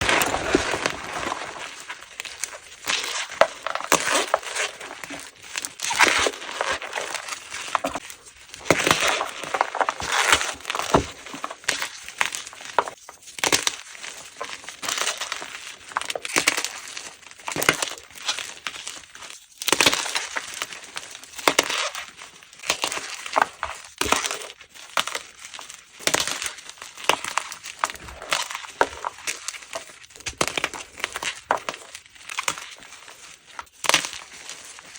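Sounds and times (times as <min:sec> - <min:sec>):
chalk blocks being crushed: 0:00.0 - 0:19.0, 0:21.4 - 0:34.9.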